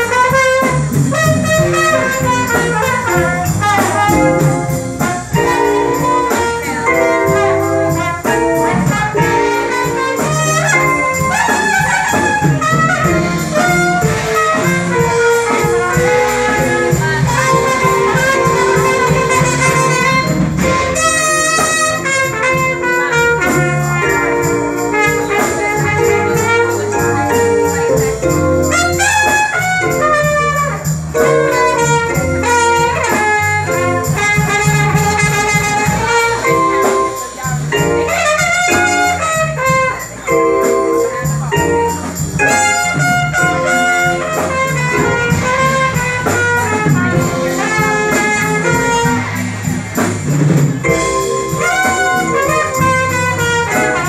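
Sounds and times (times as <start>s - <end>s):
brass horn melody: 0.0s - 54.0s
jazz band playing: 0.0s - 54.0s
stepping bass line: 0.0s - 54.0s.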